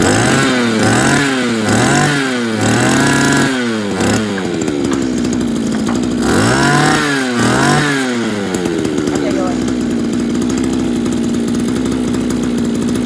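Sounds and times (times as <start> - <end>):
brush cutter engine revving: 0.0 - 13.0.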